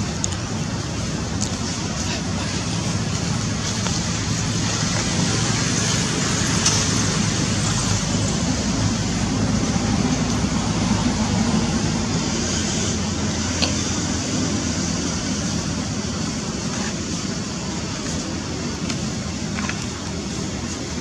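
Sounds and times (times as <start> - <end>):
road traffic engine hum: 0.0 - 21.0.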